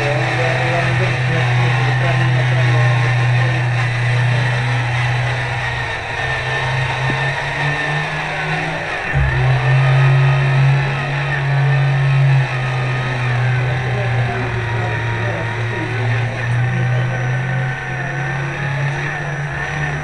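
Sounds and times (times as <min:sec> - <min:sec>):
low engine-like drone: 0:00.0 - 0:20.0.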